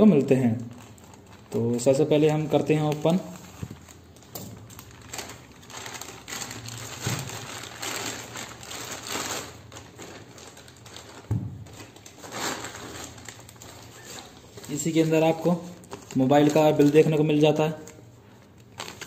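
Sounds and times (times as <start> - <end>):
plastic wrapping rustling: 0.0 - 19.0.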